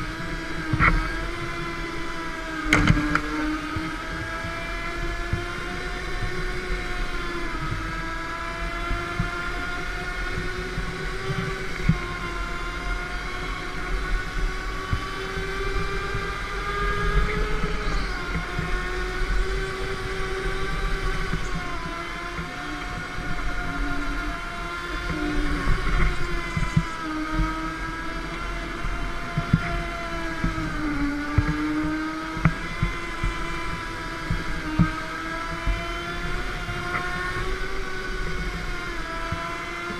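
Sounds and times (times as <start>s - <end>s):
go-kart motor whine: 0.0s - 39.9s
low track rumble: 0.0s - 39.9s.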